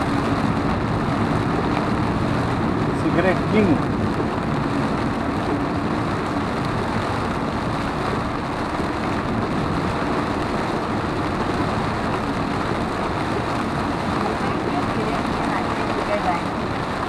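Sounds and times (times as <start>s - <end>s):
heavy rain on car: 0.0s - 17.0s
road noise inside car: 0.0s - 17.0s.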